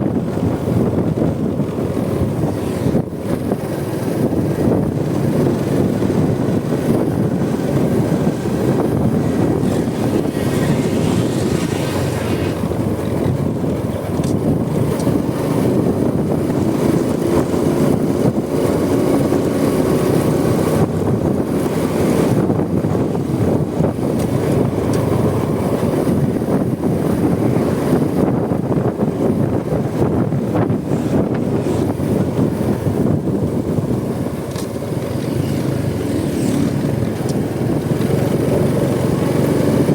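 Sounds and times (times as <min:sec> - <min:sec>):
motorcycle engine running: 0:00.0 - 0:39.9
road noise: 0:00.0 - 0:39.9
wind buffeting microphone: 0:00.0 - 0:39.9.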